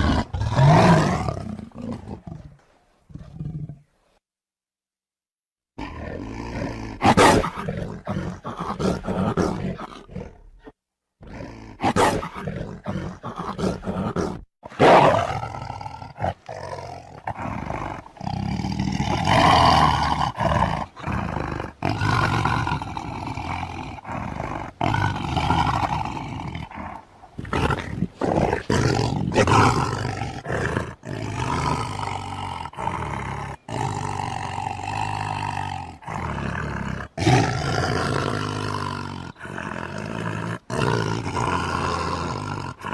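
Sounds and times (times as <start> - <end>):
beast-like roaring and growling: 0.0 - 2.6, 5.8 - 42.9.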